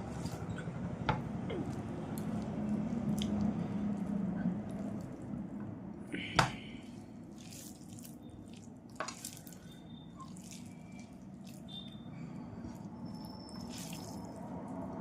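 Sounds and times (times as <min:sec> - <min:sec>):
wet eating sounds: 0:00.0 - 0:00.8, 0:01.4 - 0:15.0.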